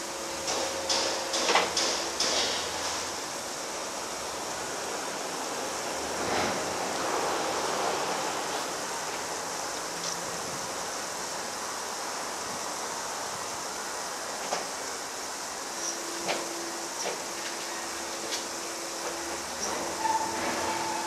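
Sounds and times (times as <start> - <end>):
hydraulic hiss: 0.0 - 21.0.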